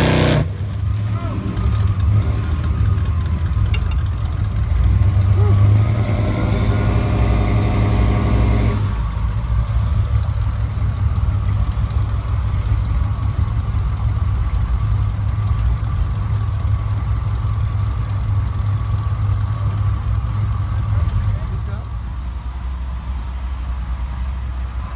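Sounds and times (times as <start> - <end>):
engine idling: 0.5 - 24.9.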